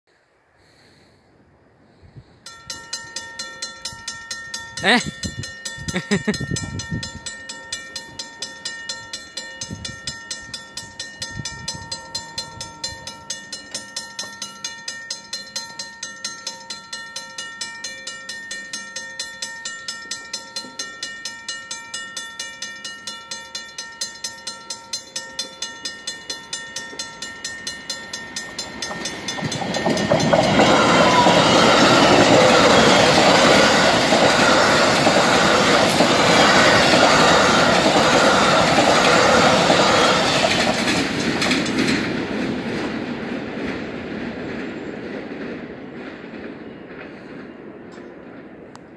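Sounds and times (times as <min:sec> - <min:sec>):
electric train passing: 0:00.3 - 0:48.9
mechanical crossing bell ringing: 0:02.5 - 0:41.9.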